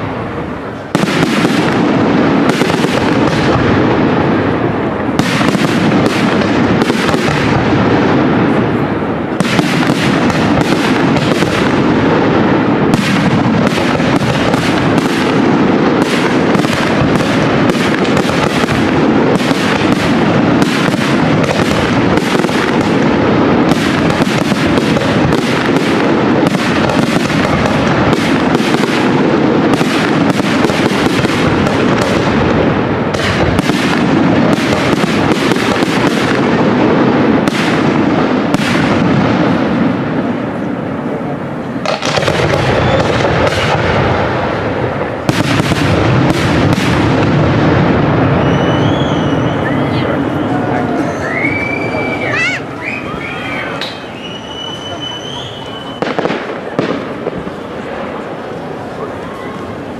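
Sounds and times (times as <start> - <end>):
fireworks bursting bangs: 0.0 - 59.9.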